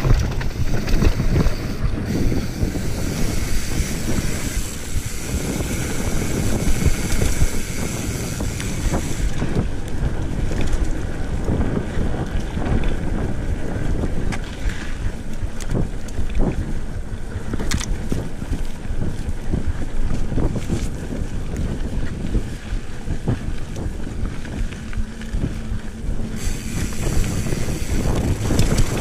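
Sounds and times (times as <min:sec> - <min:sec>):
bike rattling clicks and knocks: 0:00.0 - 0:29.0
tyres rumbling on dirt trail: 0:00.0 - 0:29.0
wind buffeting microphone: 0:00.0 - 0:29.0.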